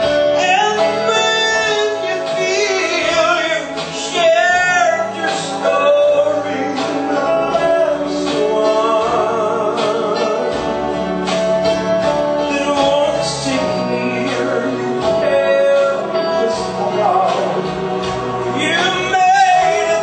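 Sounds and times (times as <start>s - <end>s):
man singing into a microphone: 0.0s - 10.9s, 12.3s - 20.0s
instrumental backing music: 0.0s - 20.0s.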